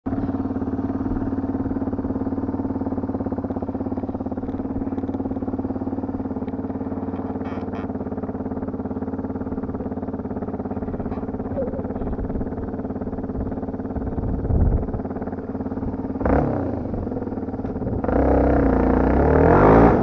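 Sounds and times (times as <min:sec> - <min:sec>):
dirt bike engine idling: 0:00.1 - 0:20.0.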